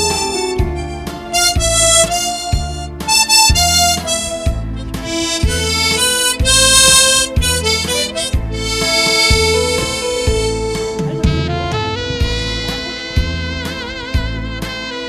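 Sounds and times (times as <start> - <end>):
harmonica playing slow melody: 0.0 - 15.0
low bass beat: 0.0 - 15.0.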